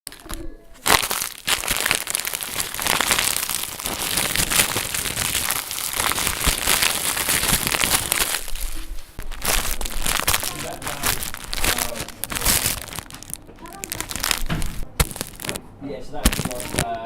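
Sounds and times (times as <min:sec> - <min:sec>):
crinkling and crackling: 0:00.0 - 0:17.0.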